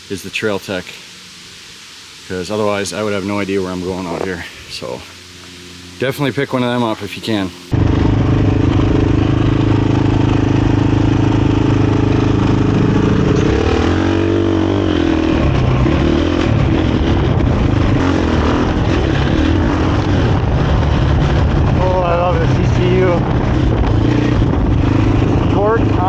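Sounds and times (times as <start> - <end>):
dirt bike engine running: 2.3 - 26.0.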